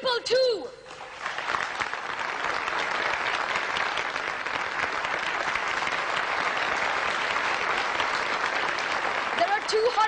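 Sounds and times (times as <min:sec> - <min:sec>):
audience applauding: 0:00.9 - 0:10.0.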